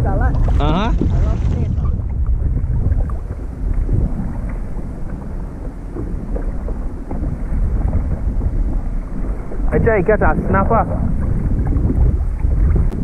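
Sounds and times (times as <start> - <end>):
water slapping against kayak hulls: 0.0 - 13.0
wind buffeting microphone: 0.0 - 13.0.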